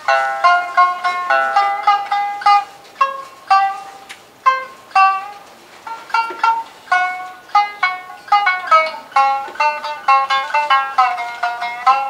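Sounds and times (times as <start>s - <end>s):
shamisen plucked notes: 0.0s - 12.0s.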